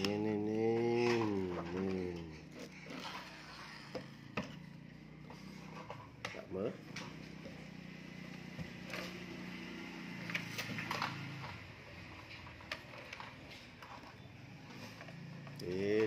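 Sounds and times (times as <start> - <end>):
plastic toys clicking on wooden floor: 0.0 - 7.7, 10.2 - 16.0.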